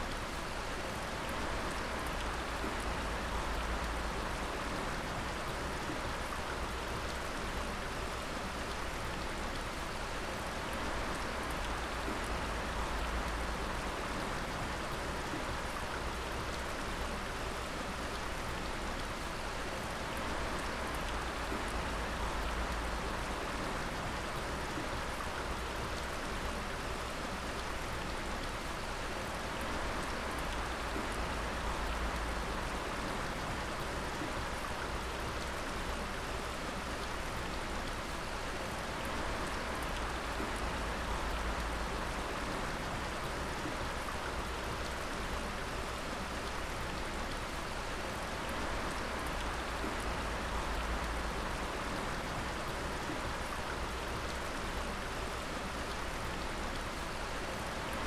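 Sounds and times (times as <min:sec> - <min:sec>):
water dripping and splashing: 0:00.1 - 0:58.0.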